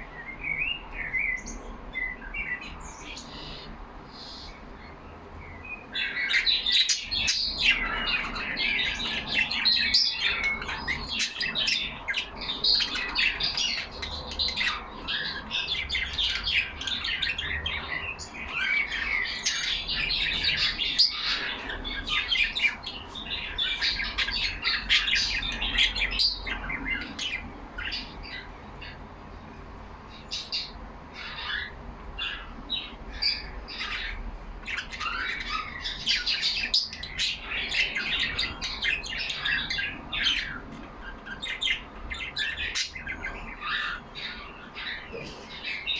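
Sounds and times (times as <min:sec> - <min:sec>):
parakeets chattering: 0:00.0 - 0:45.9.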